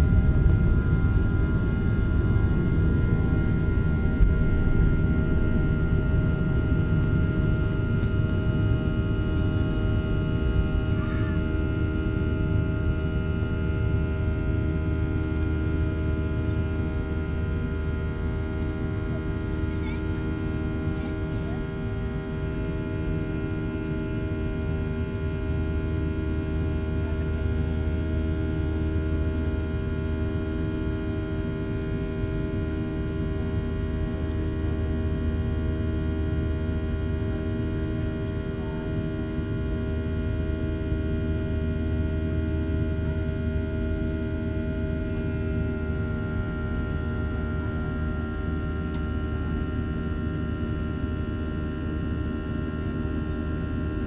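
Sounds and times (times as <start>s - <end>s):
airplane cabin engine hum: 0.0s - 54.0s.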